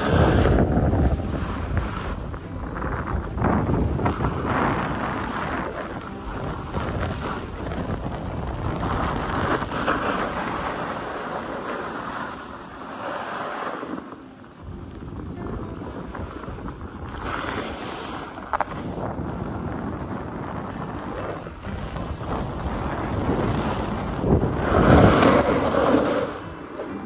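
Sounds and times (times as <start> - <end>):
snowboard hissing through snow: 0.0 - 14.2, 15.6 - 27.0
wind on microphone: 0.0 - 27.0.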